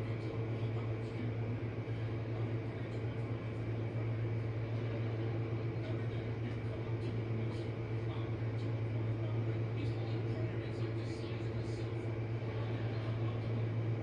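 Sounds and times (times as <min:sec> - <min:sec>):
dishwasher pump hum: 0:00.0 - 0:14.0.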